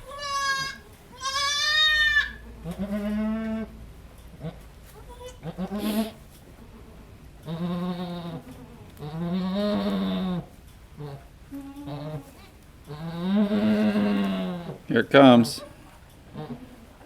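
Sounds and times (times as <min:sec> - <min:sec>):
goats bleating: 0:00.0 - 0:03.7, 0:04.3 - 0:14.8.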